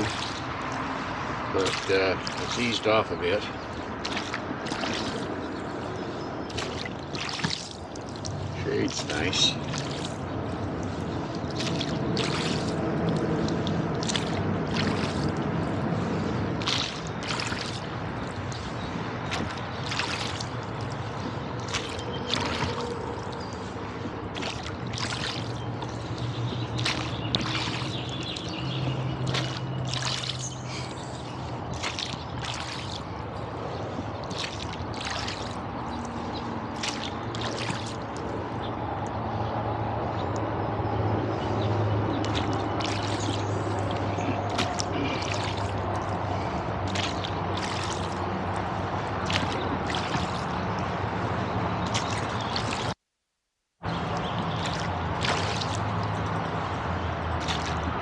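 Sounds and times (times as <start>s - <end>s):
oars splashing in water: 0.0s - 53.0s, 53.8s - 58.0s
water lapping at hull: 0.0s - 53.0s, 53.8s - 58.0s.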